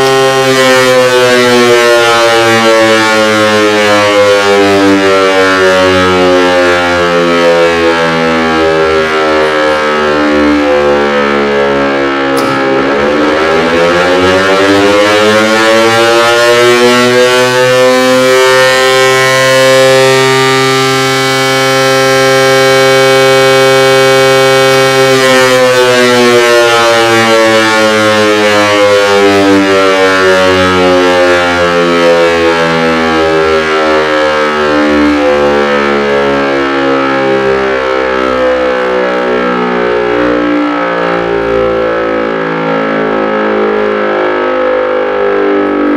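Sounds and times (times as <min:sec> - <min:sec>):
electric siren rising and falling: 0:00.0 - 0:45.9.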